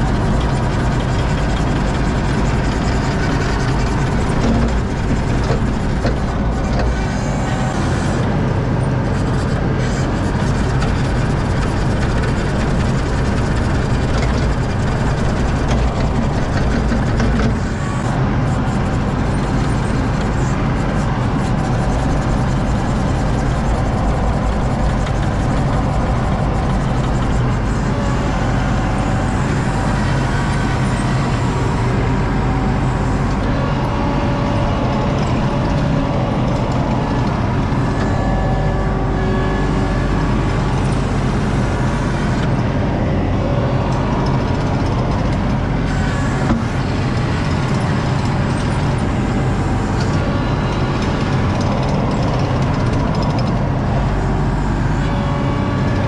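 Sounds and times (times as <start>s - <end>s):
diesel engine drone: 0.0s - 56.0s
wavering hydraulic whine: 0.0s - 56.0s.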